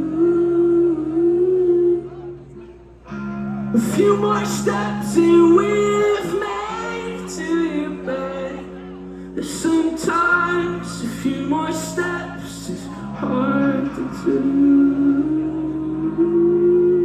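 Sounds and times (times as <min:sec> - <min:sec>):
person singing: 0:00.0 - 0:17.0
rock band playing live: 0:03.0 - 0:17.0.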